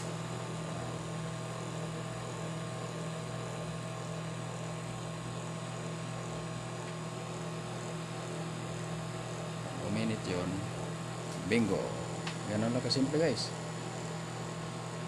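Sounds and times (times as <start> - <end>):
microwave fan whirring: 0.0 - 15.0
microwave oven hum: 0.0 - 15.0.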